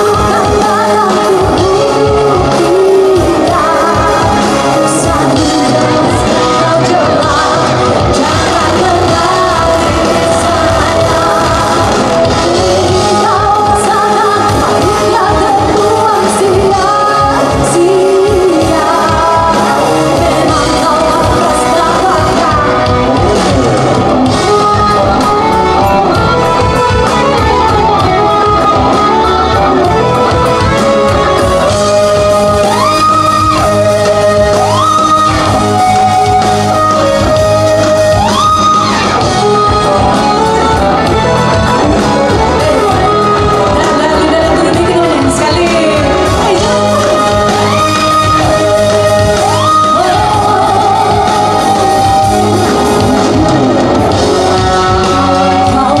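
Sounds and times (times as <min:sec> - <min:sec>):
amplified electric guitar: 0:00.0 - 0:56.0
rock band playing: 0:00.0 - 0:56.0
woman singing into a microphone: 0:00.0 - 0:56.0.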